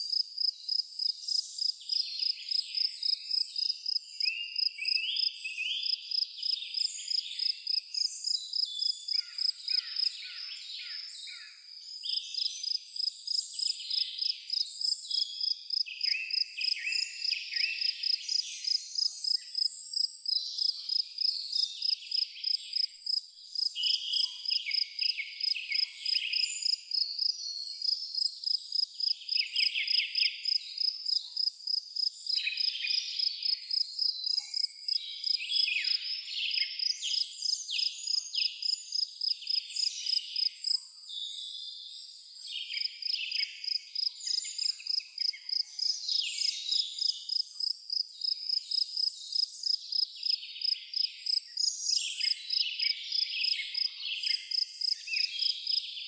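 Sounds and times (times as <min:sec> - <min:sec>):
birds singing: 0:00.0 - 0:31.5, 0:32.1 - 0:56.0
insect chirping: 0:00.0 - 0:41.6, 0:42.2 - 0:56.0.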